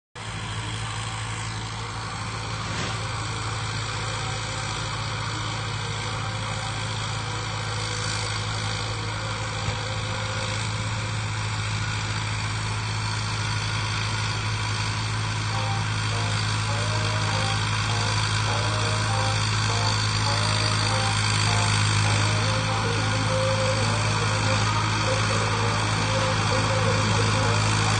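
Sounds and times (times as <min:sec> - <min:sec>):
tractor diesel engine running: 0:00.2 - 0:27.9.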